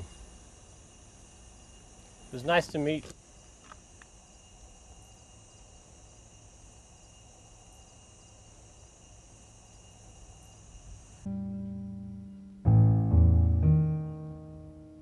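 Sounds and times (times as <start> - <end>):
insects chirring: 0.0 - 14.8.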